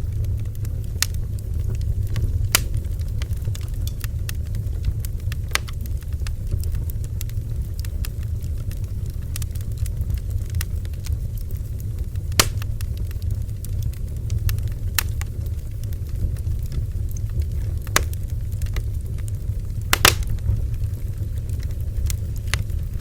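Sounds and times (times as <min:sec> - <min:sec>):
bonfire rumbling: 0:00.0 - 0:23.0
wood crackling and popping: 0:00.0 - 0:23.0.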